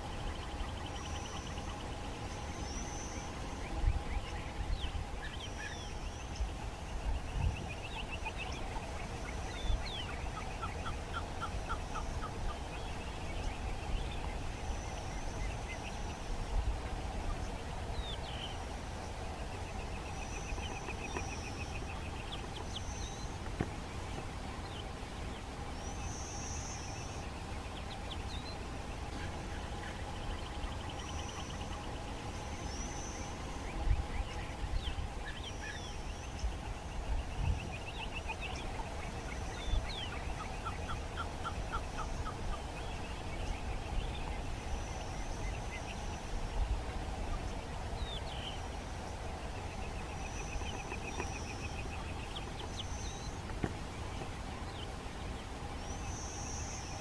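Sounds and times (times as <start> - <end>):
birds trilling and chirping: 0.0 - 57.0
faint hum and low rumble: 0.0 - 57.0.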